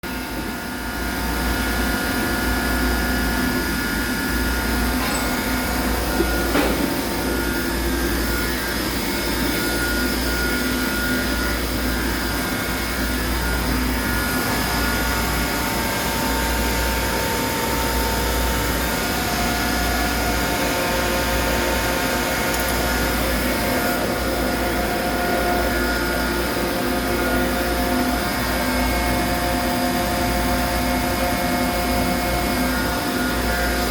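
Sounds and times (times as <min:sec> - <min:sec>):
turning machine rumble and whine: 0:00.0 - 0:33.9.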